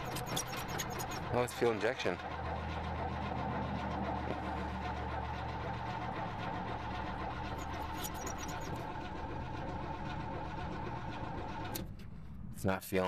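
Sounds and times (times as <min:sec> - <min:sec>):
starter motor cranking engine: 0:00.0 - 0:12.6.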